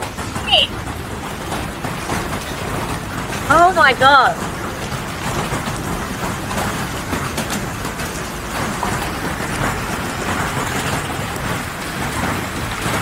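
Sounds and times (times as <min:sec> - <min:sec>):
heavy hail pounding: 0:00.0 - 0:13.0.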